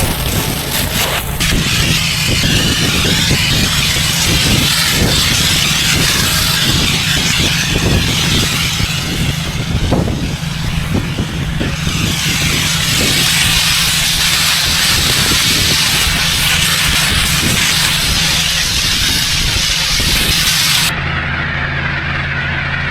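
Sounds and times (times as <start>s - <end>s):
high-pressure spray hissing on pavement: 0.0s - 20.9s
pressure washer engine running: 0.0s - 20.9s.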